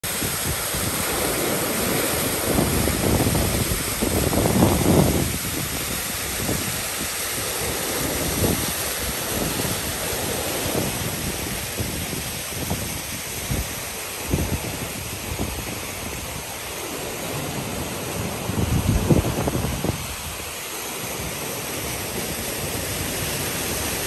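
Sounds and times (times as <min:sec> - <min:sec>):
ocean surf churning: 0:00.0 - 0:24.0
waterfall pouring onto rocks: 0:00.0 - 0:24.0
wind buffeting microphone: 0:00.0 - 0:24.0.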